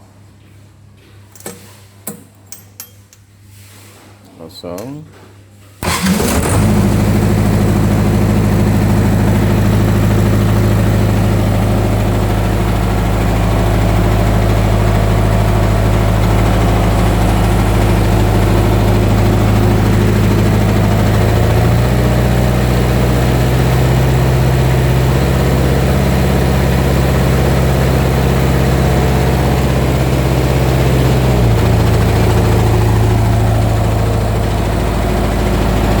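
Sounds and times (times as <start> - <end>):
diesel engine idling: 5.8 - 36.0.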